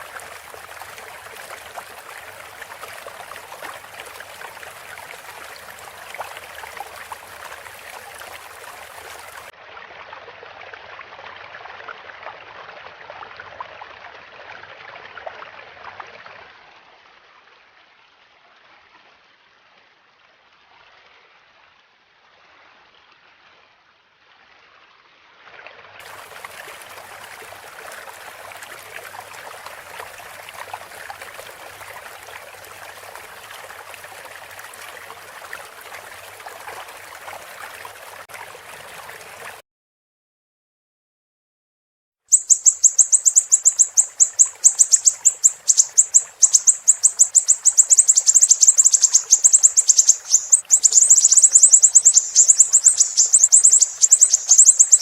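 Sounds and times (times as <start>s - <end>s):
trickling stream: 0.0s - 39.6s, 42.3s - 55.0s.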